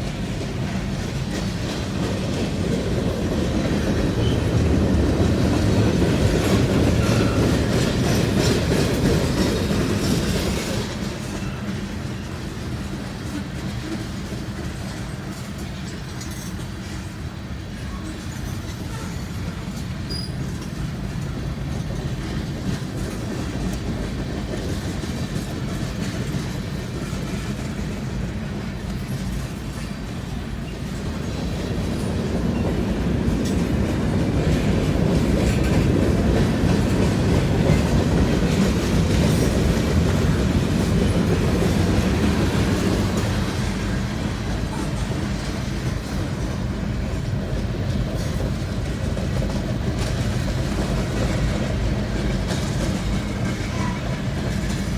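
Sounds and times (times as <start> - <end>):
train rumble: 0.0 - 54.9
train wheels clacking: 0.0 - 54.9.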